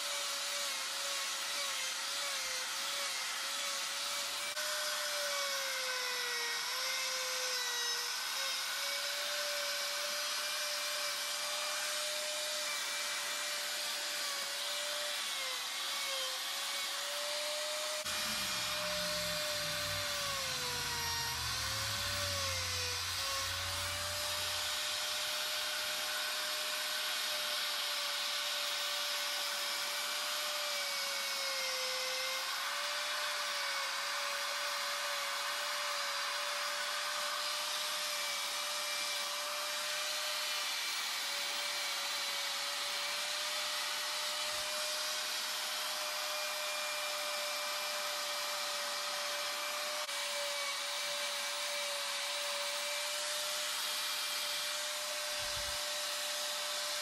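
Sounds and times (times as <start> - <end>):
die grinder whining into wood: 0.0 - 57.0.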